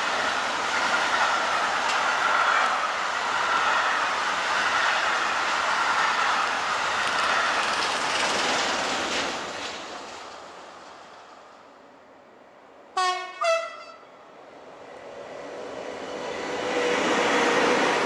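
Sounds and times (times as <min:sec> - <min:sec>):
freight train wheels on rails: 0:00.0 - 0:12.2, 0:13.1 - 0:18.0.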